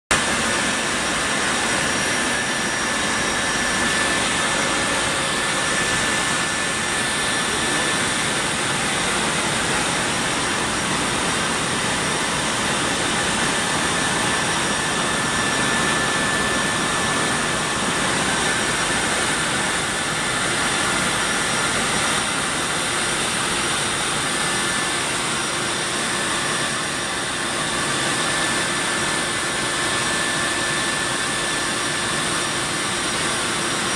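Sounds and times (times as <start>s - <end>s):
faint steady whines: 0.1s - 33.9s
jet engine noise inside aircraft: 0.1s - 33.9s.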